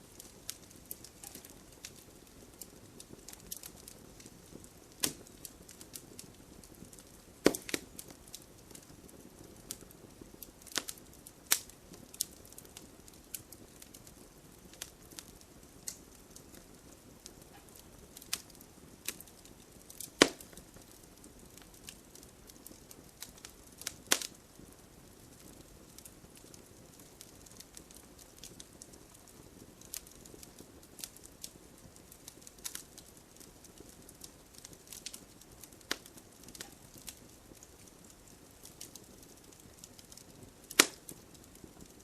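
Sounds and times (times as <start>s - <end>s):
sharp fire pops: 0.0s - 24.6s, 25.2s - 42.0s
faint steady hiss: 0.0s - 42.0s
fire crackling in fireplace: 0.0s - 42.0s.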